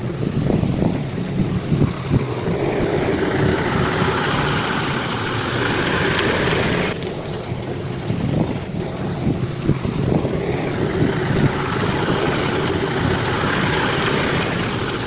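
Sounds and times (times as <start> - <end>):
bulldozer diesel engine running: 0.0 - 15.0
rushing hiss: 0.0 - 15.0.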